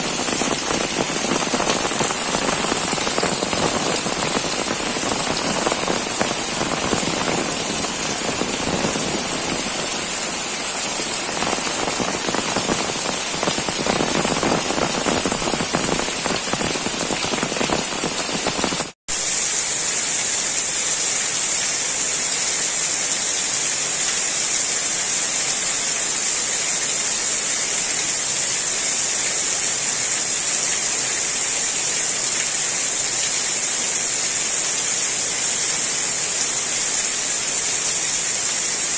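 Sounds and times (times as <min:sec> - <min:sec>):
heavy rain falling: 0:00.0 - 0:20.5, 0:25.6 - 0:38.9.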